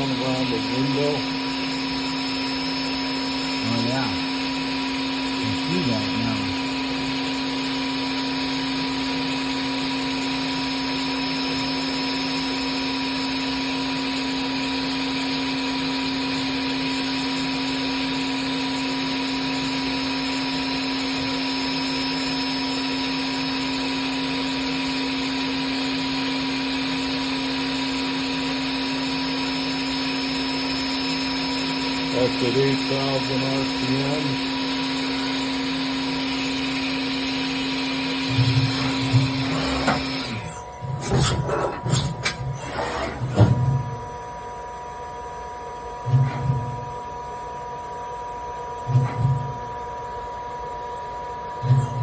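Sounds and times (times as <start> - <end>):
machine spindle humming: 0.0 - 52.0.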